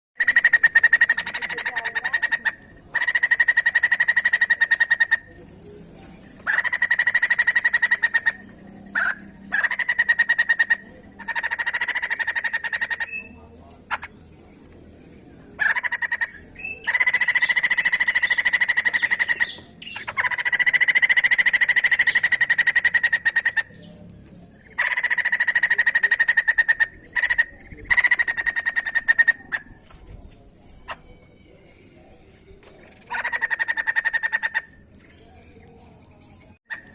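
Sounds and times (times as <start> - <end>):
bird calling in fast bursts: 0.2 - 5.5, 6.4 - 14.3, 15.6 - 23.9, 24.5 - 29.8, 32.9 - 35.3, 36.5 - 36.9.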